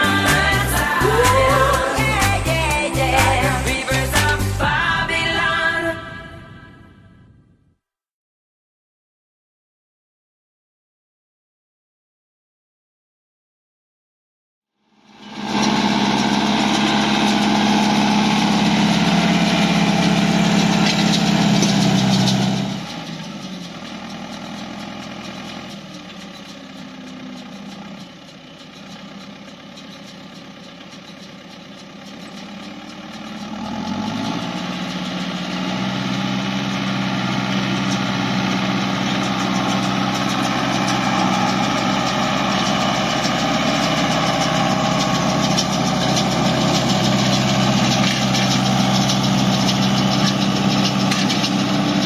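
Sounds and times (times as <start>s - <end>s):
round baler turning: 0.0s - 5.6s, 15.0s - 52.0s
tractor engine running: 0.0s - 6.5s, 14.8s - 52.0s.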